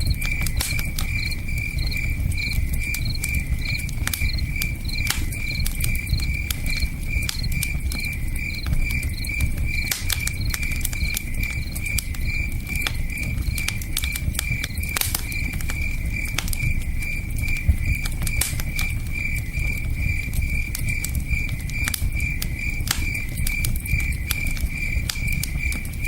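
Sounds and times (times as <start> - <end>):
campfire crackling and popping: 0.0 - 26.0
cricket chirping: 0.0 - 26.0.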